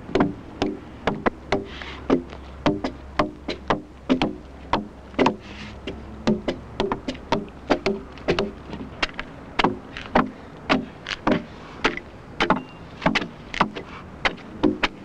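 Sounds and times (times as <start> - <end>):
axe chopping wood: 0.0 - 15.0.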